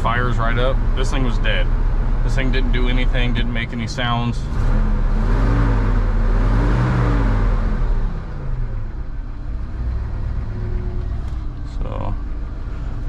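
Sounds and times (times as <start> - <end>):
truck engine revving and idling: 0.0 - 13.0.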